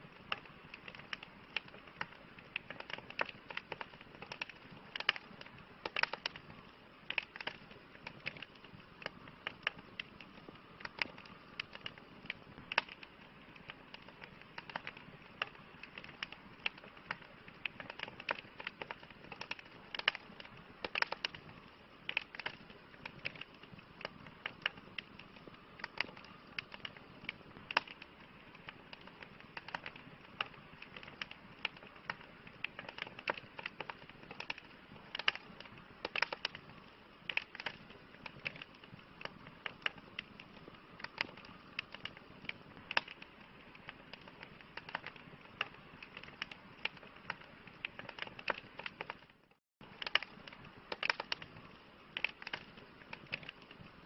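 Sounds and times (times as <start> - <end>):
campfire crackling: 0.0 - 54.0
hiss of burning wood: 0.0 - 54.0.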